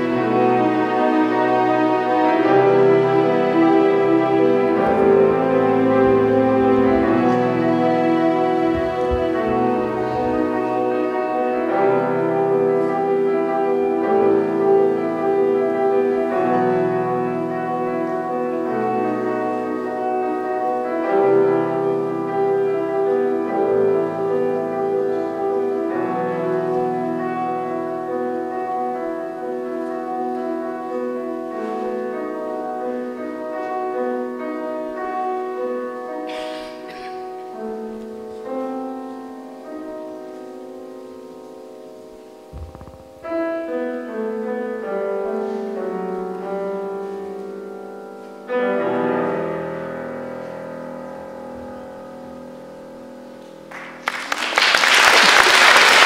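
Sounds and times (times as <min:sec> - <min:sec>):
slow classical piano piece: 0:00.0 - 0:56.0.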